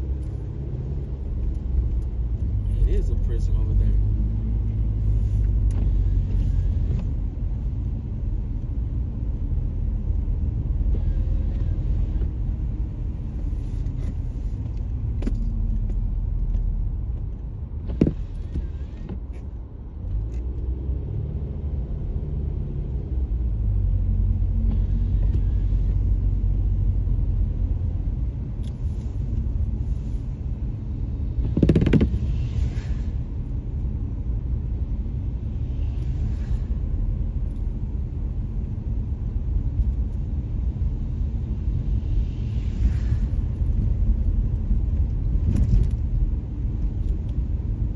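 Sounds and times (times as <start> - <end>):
car road noise rumble: 0.0 - 47.9.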